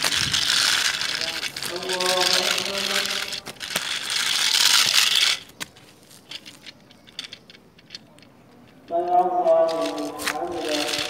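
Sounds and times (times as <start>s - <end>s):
plastic toy scraping on concrete: 0.0s - 11.0s.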